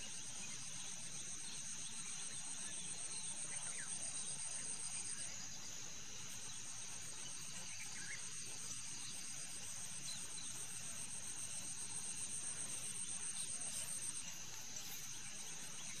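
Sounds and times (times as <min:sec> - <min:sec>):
trilling insects chorus: 0:00.0 - 0:16.0.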